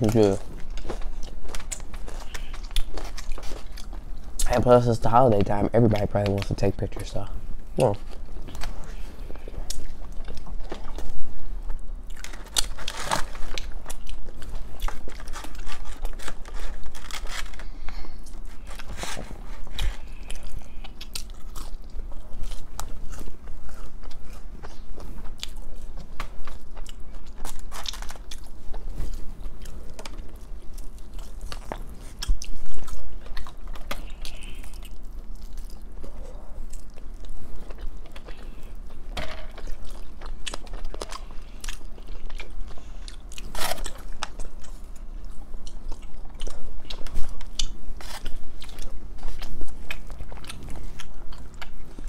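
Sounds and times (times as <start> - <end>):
crunchy chewing and biting: 0.0 - 4.8, 7.7 - 52.0.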